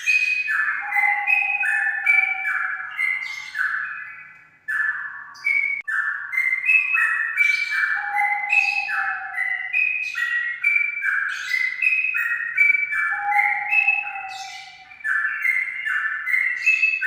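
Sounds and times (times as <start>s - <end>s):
bird whistling song: 0.0s - 17.0s.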